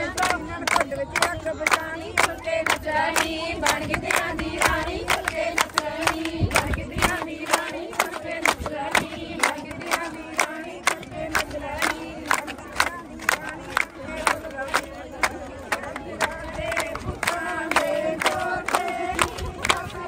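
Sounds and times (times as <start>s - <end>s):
rhythmic hand claps: 0.0s - 20.0s
women singing in chorus: 0.0s - 20.0s.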